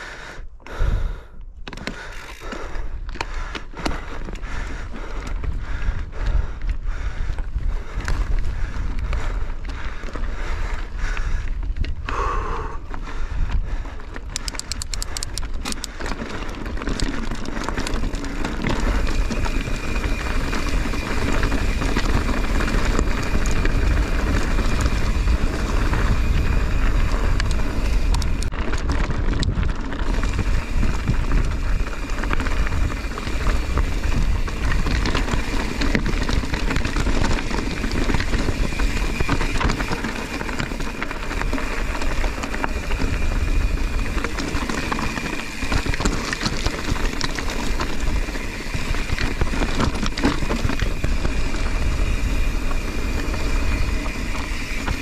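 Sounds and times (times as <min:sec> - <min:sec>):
bike rattling: 0:00.0 - 0:55.0
bike tyres on rough trail: 0:00.0 - 0:55.0
wind rumbling on microphone: 0:00.6 - 0:55.0.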